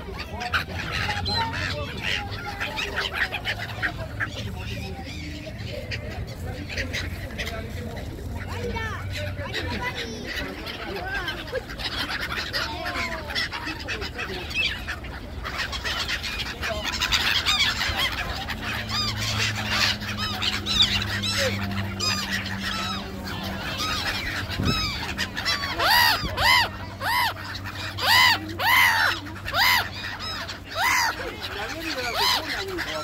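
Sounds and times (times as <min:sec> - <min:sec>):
flock of gulls calling: 0:00.0 - 0:33.0.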